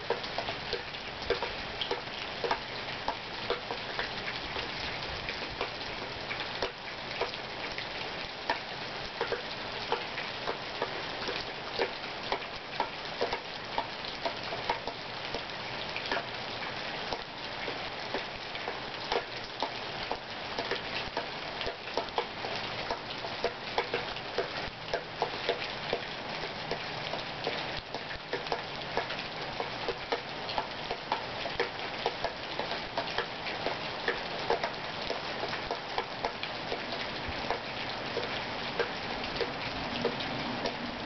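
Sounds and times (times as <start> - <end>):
steady rain: 0.0 - 41.0
drips tapping: 0.1 - 4.7, 6.6 - 7.4, 8.4 - 15.5, 17.1 - 41.0.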